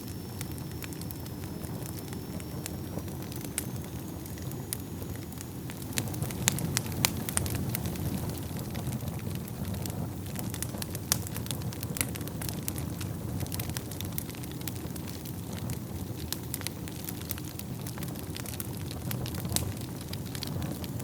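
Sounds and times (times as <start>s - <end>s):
fire crackles and pops: 0.0s - 21.0s
rumble of flames: 0.0s - 21.0s.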